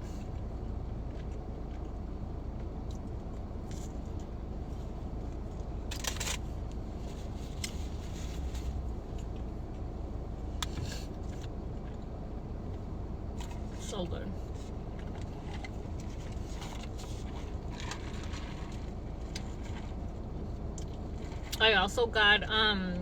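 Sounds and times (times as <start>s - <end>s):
low rumble inside car cabin: 0.0s - 23.0s.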